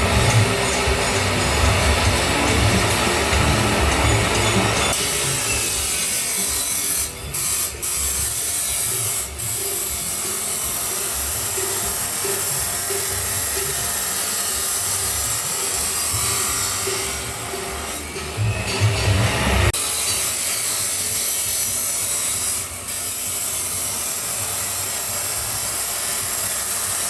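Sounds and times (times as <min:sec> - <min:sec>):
angle grinder cutting metal pipe: 0:00.0 - 0:27.0.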